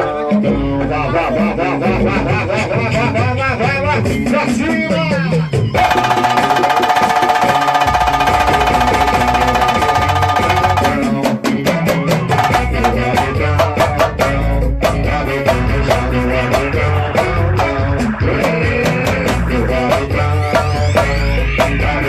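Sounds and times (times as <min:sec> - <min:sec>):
band playing instrumental: 0:00.0 - 0:22.0
fast drumming: 0:01.3 - 0:22.0.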